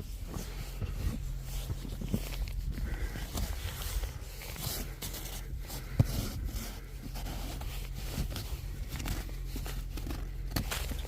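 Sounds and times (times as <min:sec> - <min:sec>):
footsteps crunching in snow: 0:00.0 - 0:11.0.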